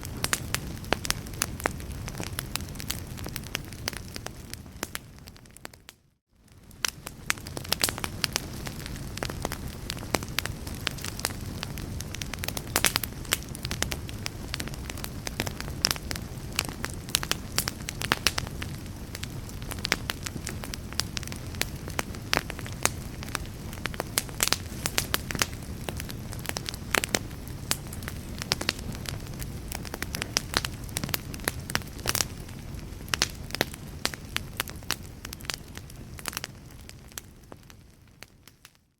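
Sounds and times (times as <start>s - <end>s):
fire crackling and popping: 0.0s - 38.9s
low rumble of flame: 0.0s - 38.9s.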